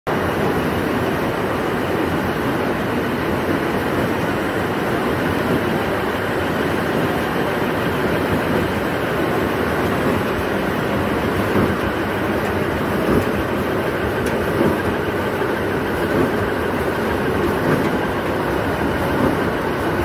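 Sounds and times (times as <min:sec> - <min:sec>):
straw making machine running: 0:00.1 - 0:20.0.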